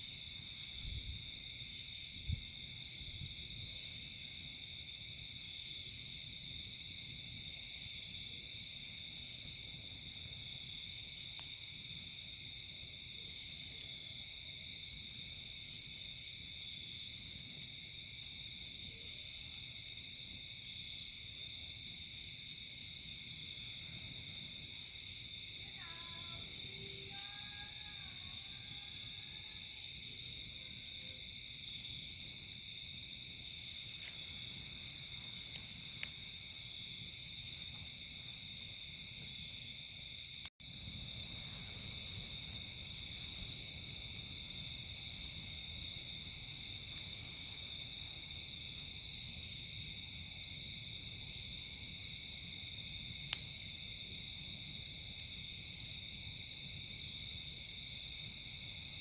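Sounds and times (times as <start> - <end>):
crickets and insects chirping: 0.0 - 59.0
high insect trill: 0.0 - 59.0.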